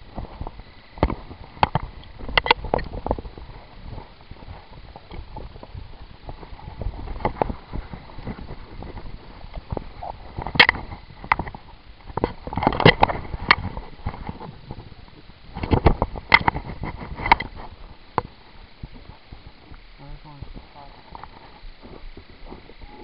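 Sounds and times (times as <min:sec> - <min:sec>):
footsteps on dirt: 0:00.0 - 0:14.9, 0:15.7 - 0:23.0
gear knocks clicks and rustles: 0:00.1 - 0:22.8.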